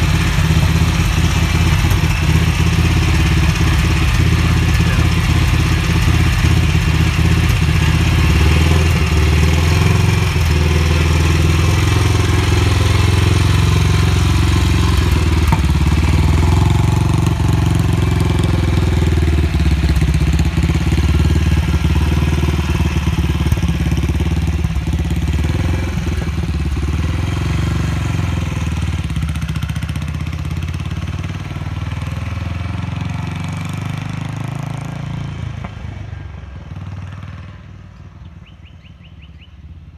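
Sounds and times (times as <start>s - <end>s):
motorcycle engine running: 0.0s - 37.7s.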